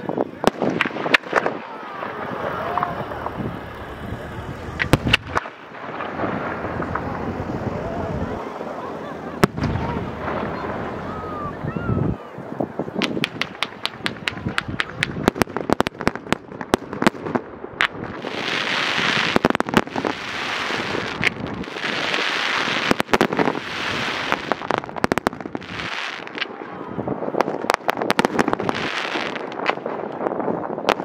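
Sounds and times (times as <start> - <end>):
firework bangs: 0.0 - 31.0
hissing firework crackle: 0.0 - 31.0.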